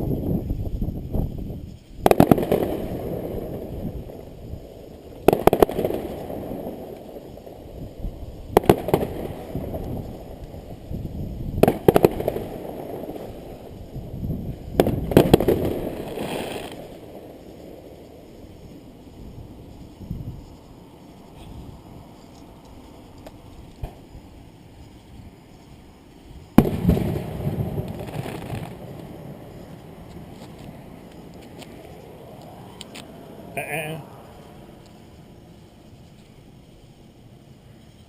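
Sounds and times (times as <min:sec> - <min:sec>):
fireworks bangs: 0:02.0 - 0:24.7, 0:26.4 - 0:35.7.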